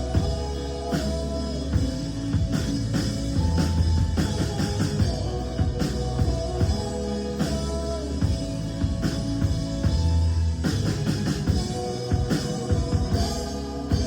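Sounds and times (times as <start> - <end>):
band playing instrumental: 0.0 - 14.0.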